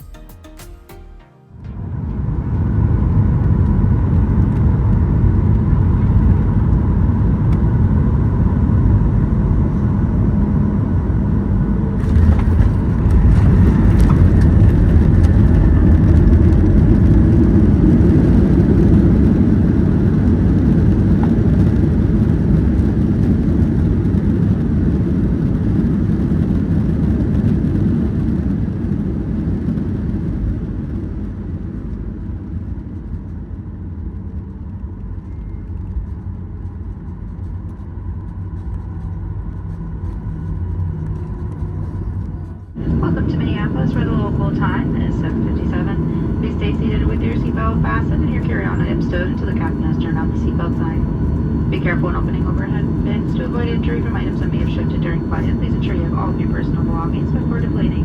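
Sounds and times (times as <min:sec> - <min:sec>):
roar of air and jet engines: 0:01.6 - 0:58.0
rumble of jet braking: 0:01.7 - 0:58.0.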